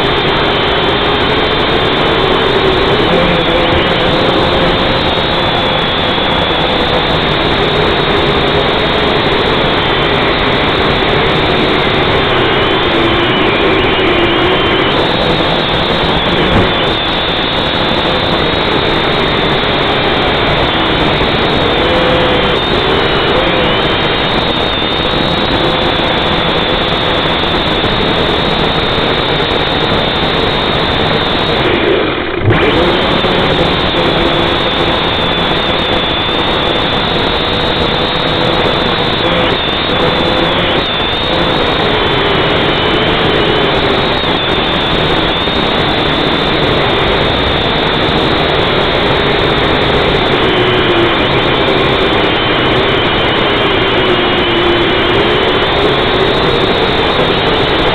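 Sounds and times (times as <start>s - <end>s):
toy drone motors whining: 0.0s - 57.9s.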